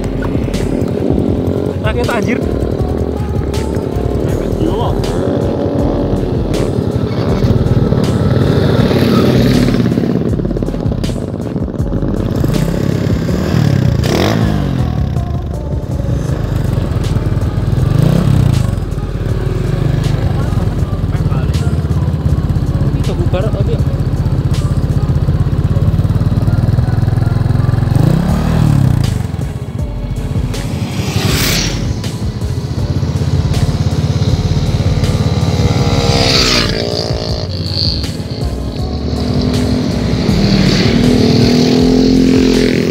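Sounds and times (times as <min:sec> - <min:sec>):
motorcycle engines passing: 0:00.0 - 0:42.9.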